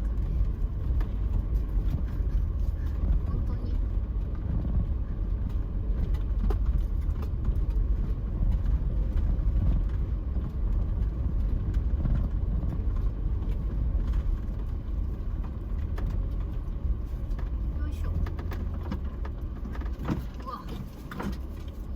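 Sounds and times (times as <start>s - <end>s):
road and engine rumble: 0.0s - 21.9s.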